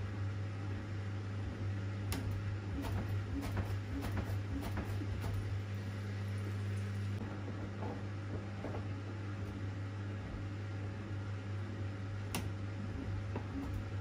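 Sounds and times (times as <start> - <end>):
washer drum motor hum: 0.0 - 14.0.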